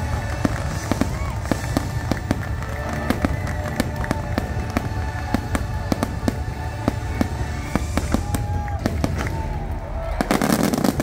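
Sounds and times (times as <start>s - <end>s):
fireworks bangs and crackles: 0.0s - 11.0s
music soundtrack: 0.0s - 11.0s.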